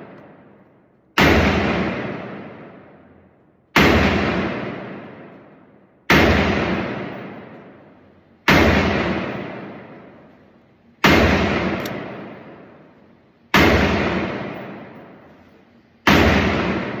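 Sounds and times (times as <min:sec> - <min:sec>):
gunshots with echo: 0:00.0 - 0:00.6, 0:01.2 - 0:03.1, 0:03.7 - 0:10.4, 0:11.0 - 0:12.9, 0:13.5 - 0:15.4, 0:16.0 - 0:17.0.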